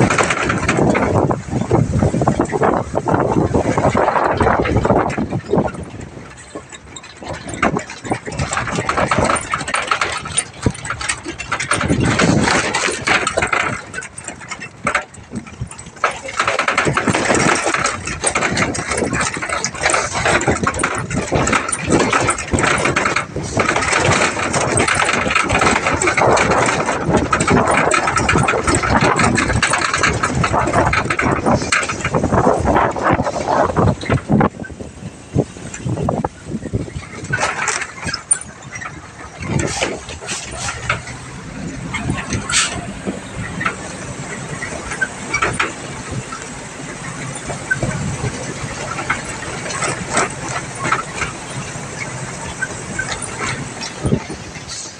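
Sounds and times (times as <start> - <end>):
cargo bed rattling: 0.0 - 54.9
truck engine running: 0.0 - 54.9.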